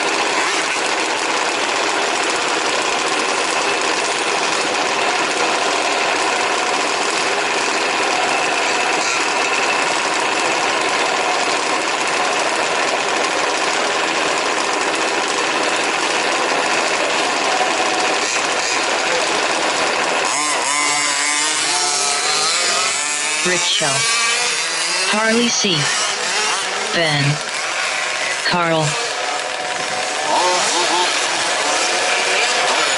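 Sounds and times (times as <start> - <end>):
engine revving: 0.0 - 32.9
small two-stroke engines buzzing: 0.0 - 32.9.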